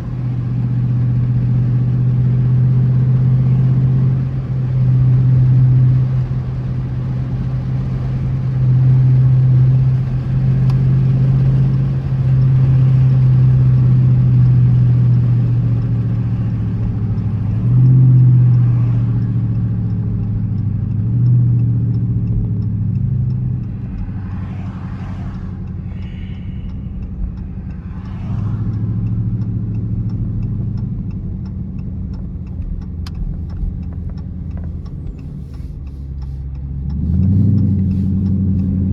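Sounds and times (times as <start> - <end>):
car engine droning while driving: 0.0 - 38.9.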